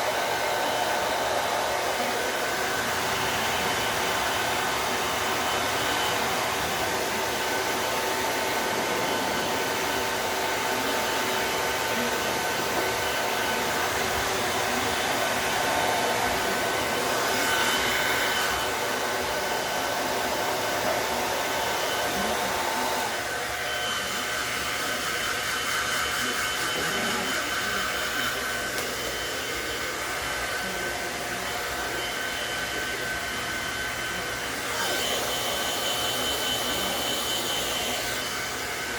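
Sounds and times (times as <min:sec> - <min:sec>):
pet dryer whirring: 0:00.0 - 0:38.9.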